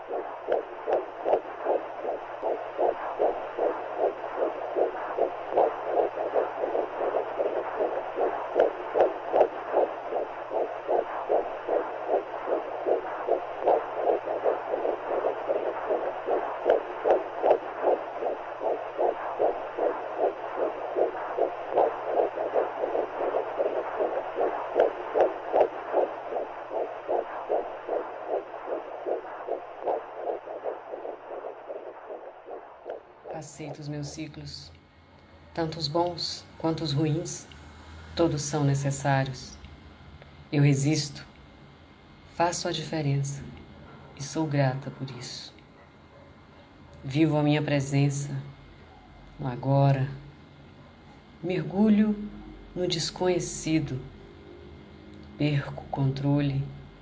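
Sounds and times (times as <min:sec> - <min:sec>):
low steady hum: 0:00.0 - 0:57.0
rhythmic heartbeat-like pulse: 0:00.0 - 0:57.0.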